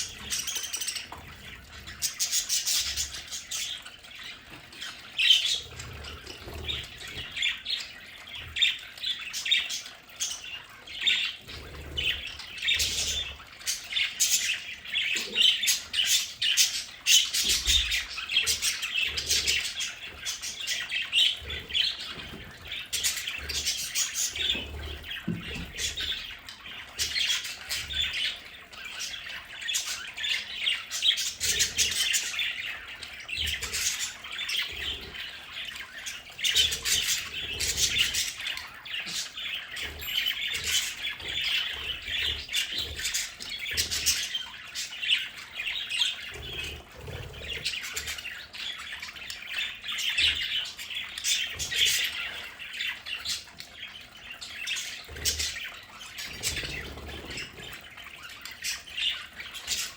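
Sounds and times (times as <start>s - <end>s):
budgerigars chattering: 4.8s - 59.9s.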